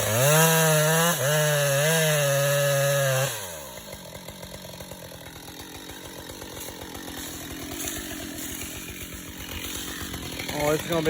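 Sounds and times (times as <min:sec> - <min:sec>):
chainsaw engine idling: 0:00.0 - 0:11.0.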